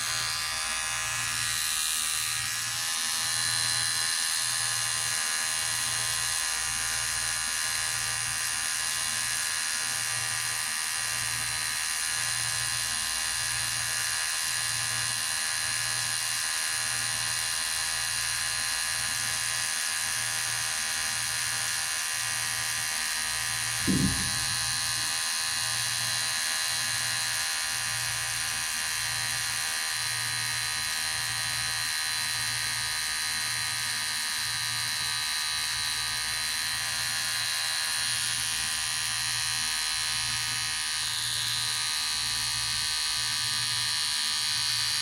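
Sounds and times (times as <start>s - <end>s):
electric hair clipper buzzing: 0.0s - 25.1s, 26.4s - 45.0s.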